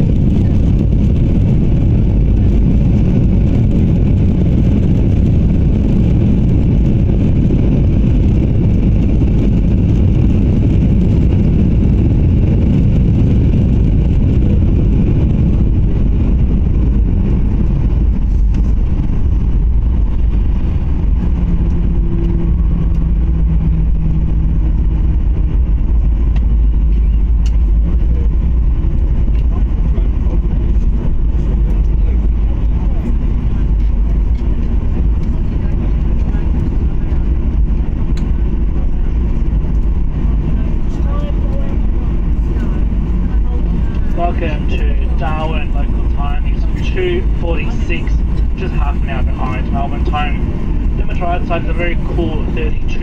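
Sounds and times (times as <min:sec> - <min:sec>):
airliner engines and wheels rumbling: 0:00.0 - 0:53.0.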